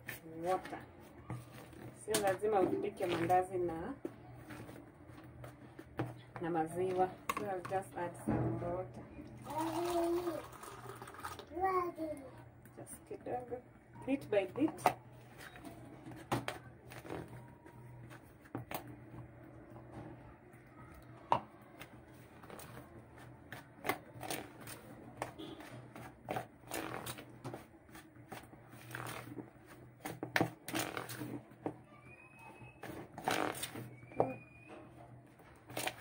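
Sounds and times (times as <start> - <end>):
hands kneading dough in a bowl: 0.0 - 10.0, 14.0 - 36.0.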